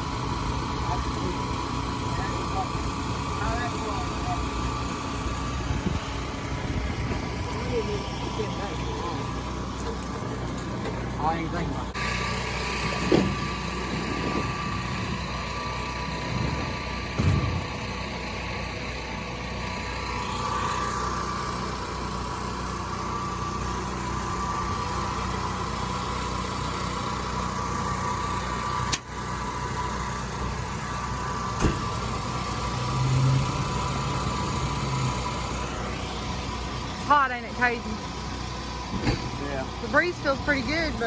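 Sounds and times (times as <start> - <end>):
small engines running: 0.0 - 41.0.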